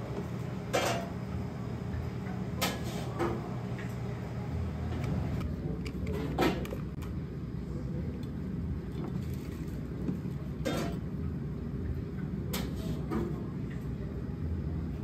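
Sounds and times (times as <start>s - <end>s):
kitchen background rumble: 0.0s - 15.0s.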